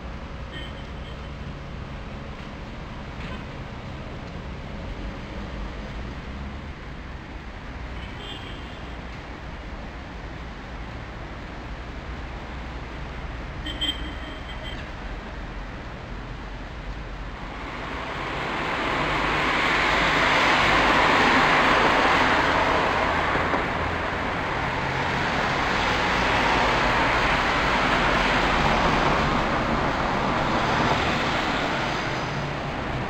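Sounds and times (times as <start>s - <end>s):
cars passing on city street: 0.0s - 33.0s.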